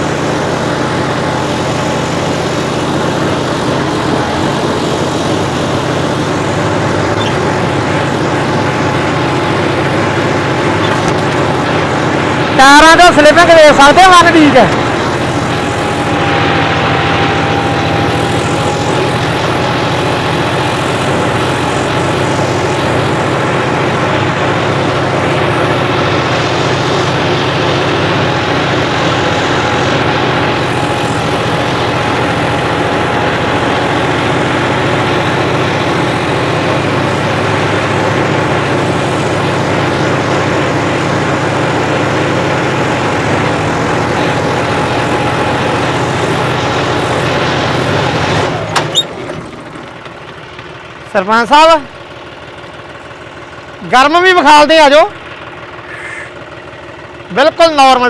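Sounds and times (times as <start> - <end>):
steady high whine: 0.0 - 58.0
tractor diesel engine under load: 0.0 - 58.0.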